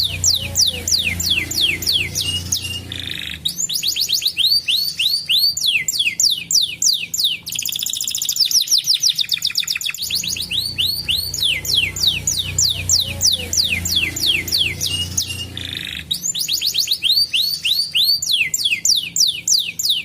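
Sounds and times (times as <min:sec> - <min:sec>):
canary singing with trills: 0:00.0 - 0:20.0.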